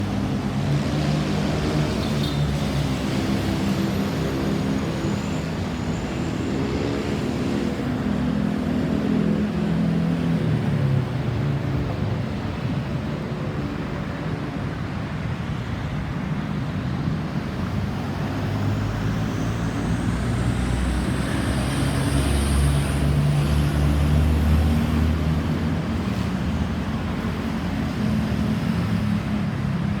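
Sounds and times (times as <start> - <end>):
tyre and road noise: 0.0 - 30.0
vehicle engines passing: 0.0 - 30.0.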